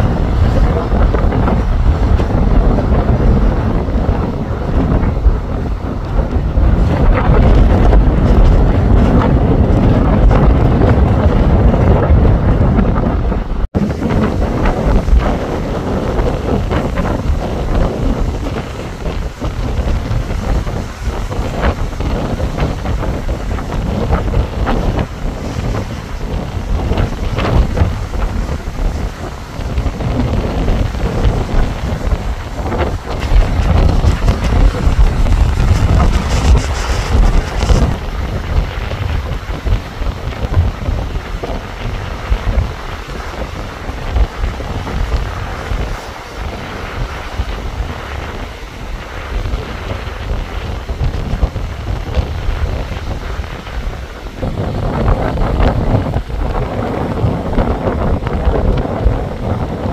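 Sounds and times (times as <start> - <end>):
choppy waves on shore: 0.0 - 59.9
wind buffeting microphone: 0.0 - 59.9.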